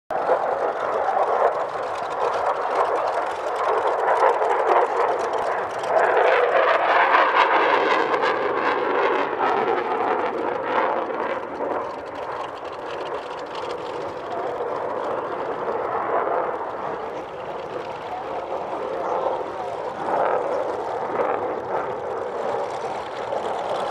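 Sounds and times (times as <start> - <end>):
propeller plane engine running: 0.1 - 23.9.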